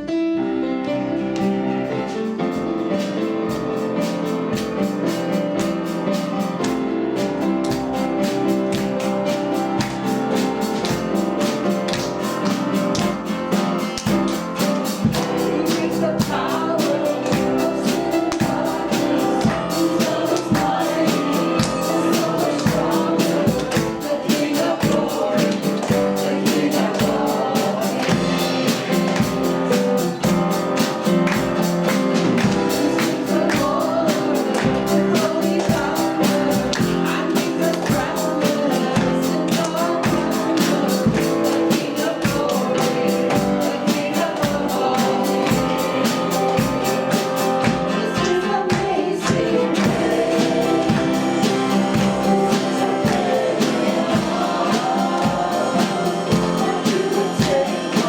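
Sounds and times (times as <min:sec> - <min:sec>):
band playing worship music: 0:00.0 - 0:58.0
person singing: 0:00.0 - 0:58.0.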